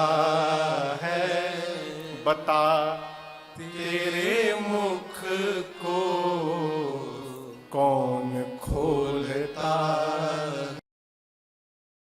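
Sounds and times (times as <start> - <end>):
person singing devotional song: 0.0 - 10.8.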